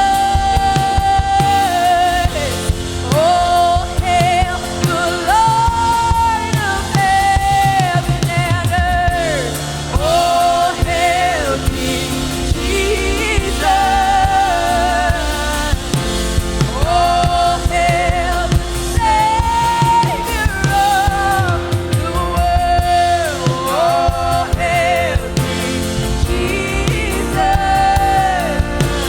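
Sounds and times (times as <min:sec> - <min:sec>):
gospel band with drums: 0:00.0 - 0:29.0.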